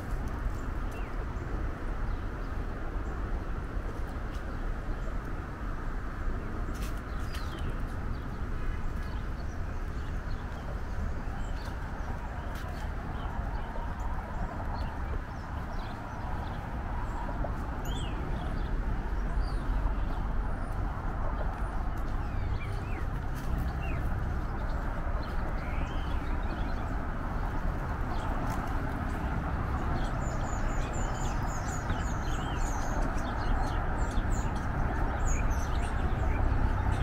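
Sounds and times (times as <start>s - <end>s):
low outdoor background noise: 0.0s - 37.0s
small birds chirping: 6.4s - 37.0s.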